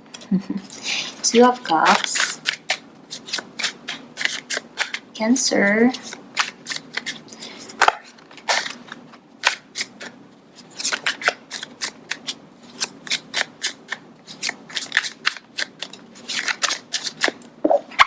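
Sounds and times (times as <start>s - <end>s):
cards being shuffled: 1.4s - 5.0s, 5.9s - 17.4s.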